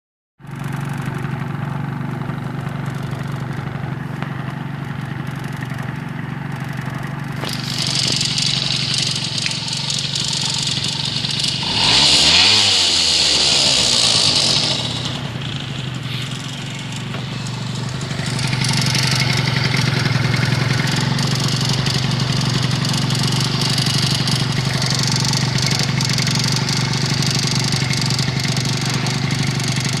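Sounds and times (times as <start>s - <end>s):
two-stroke scooter engine running: 0.4s - 30.0s
engine crackle: 0.5s - 30.0s.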